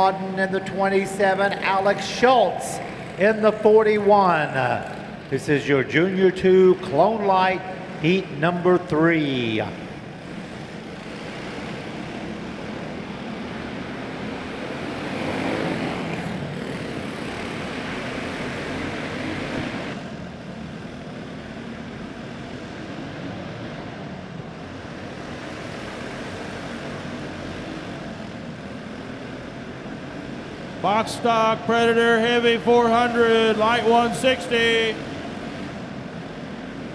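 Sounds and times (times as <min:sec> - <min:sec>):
small race car engines buzzing: 0:00.0 - 0:36.9.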